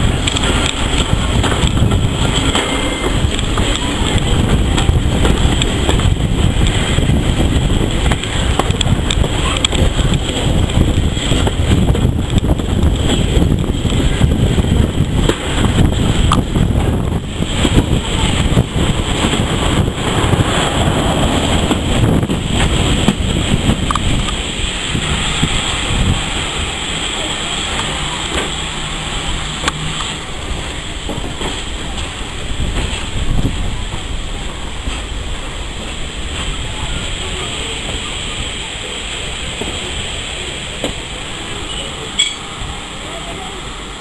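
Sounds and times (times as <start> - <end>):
wind buffeting microphone: 0.0 - 43.0
train carriage rumbling on rails: 0.0 - 44.0.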